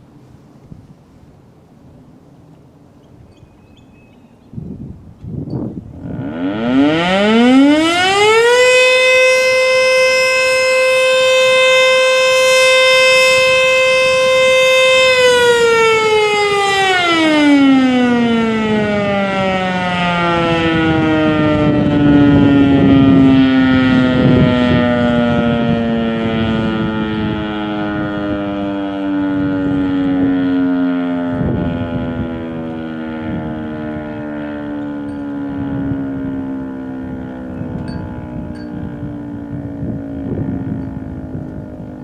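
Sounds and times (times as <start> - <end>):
warning siren winding: 6.0 - 27.8, 29.5 - 42.0.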